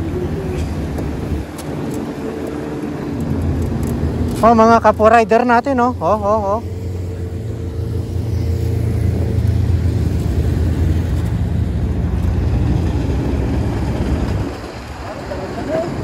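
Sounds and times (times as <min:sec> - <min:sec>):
road and wind noise: 0:00.0 - 0:16.0
truck engine rumble: 0:00.0 - 0:16.0.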